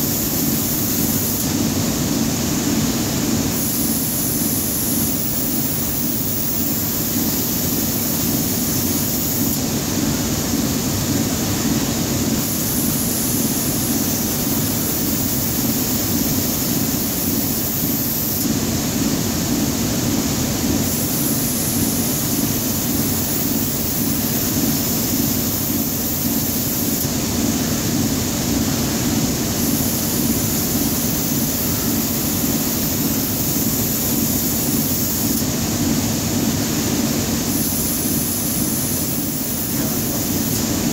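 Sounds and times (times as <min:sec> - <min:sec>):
belt conveyor machinery drone: 0:00.0 - 0:40.9.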